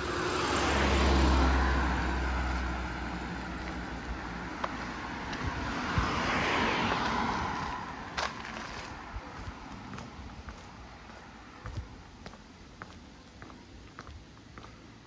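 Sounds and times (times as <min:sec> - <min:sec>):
vehicles passing by: 0:00.0 - 0:15.0.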